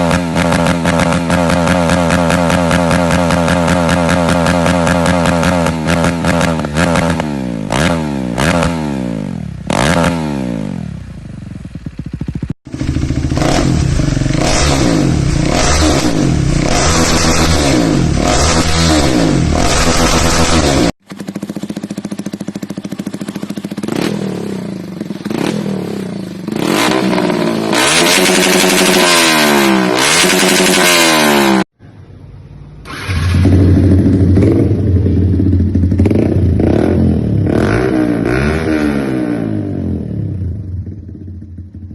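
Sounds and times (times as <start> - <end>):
motorcycle engines revving: 0.0 - 31.8, 32.8 - 41.9.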